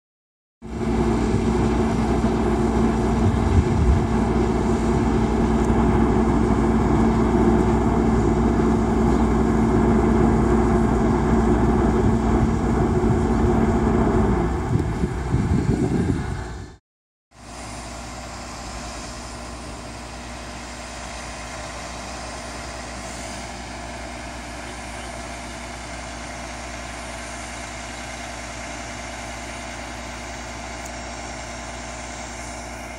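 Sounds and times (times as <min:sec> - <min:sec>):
loud engine drone: 0:00.6 - 0:32.9.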